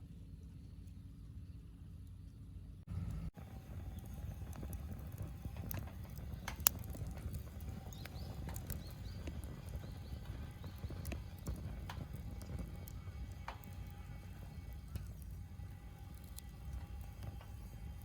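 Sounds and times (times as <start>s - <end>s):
low steady rumble: 0.0s - 18.0s
wood fire crackling: 2.9s - 18.0s.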